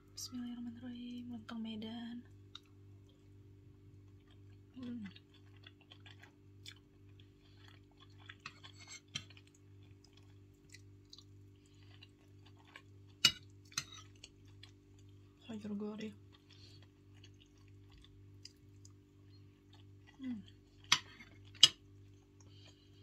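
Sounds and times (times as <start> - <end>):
steady low hum: 0.0 - 23.0
quiet chewing: 2.3 - 15.4, 16.2 - 23.0.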